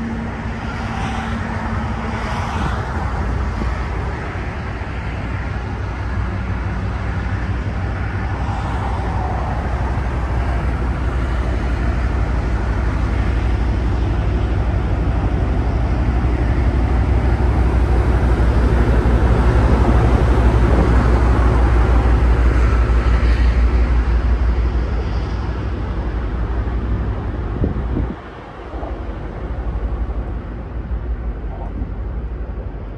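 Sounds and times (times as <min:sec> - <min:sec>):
ship engine rumble: 0:00.0 - 0:32.9
wind buffeting microphone: 0:00.0 - 0:32.9.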